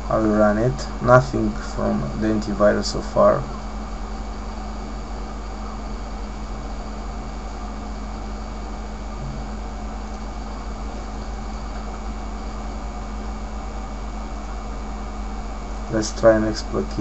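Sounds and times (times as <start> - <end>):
faint steady whine: 0.0 - 17.0
low drone: 0.0 - 17.0.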